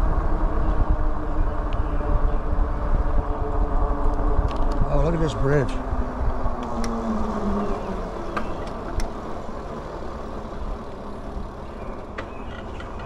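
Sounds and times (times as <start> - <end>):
low hum: 0.0 - 13.0
tyre and riding noise: 0.0 - 13.0.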